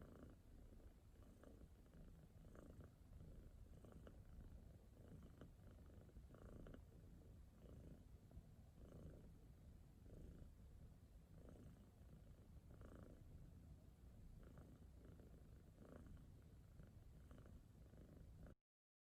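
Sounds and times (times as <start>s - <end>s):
cat purring: 0.0s - 18.6s.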